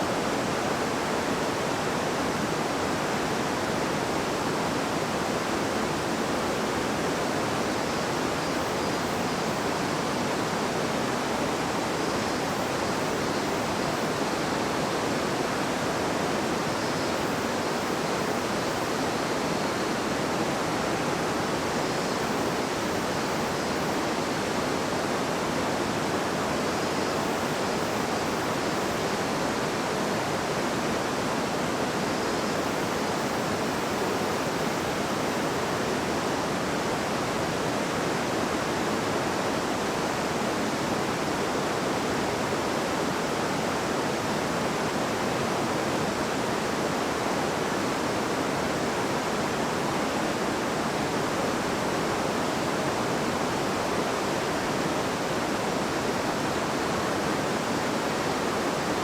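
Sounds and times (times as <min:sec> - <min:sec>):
river water babbling: 0:00.1 - 0:59.0.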